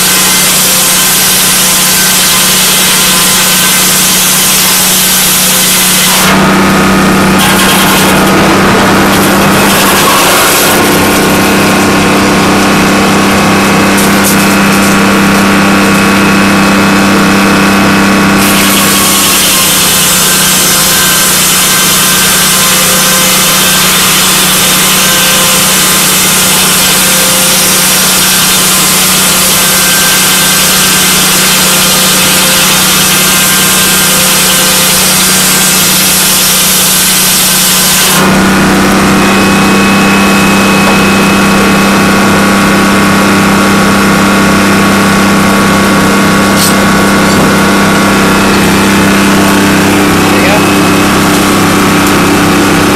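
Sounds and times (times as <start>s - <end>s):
circular sawmill droning hum: 0.0s - 52.9s.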